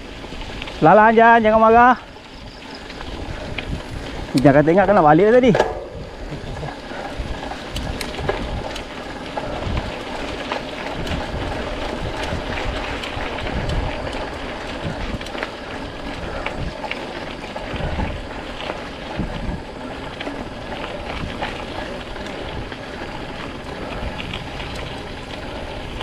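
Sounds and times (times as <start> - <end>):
bike rattling over bumps: 0.0 - 26.0
bike tyres crunching on dirt: 0.0 - 26.0
wind across microphone: 2.3 - 26.0.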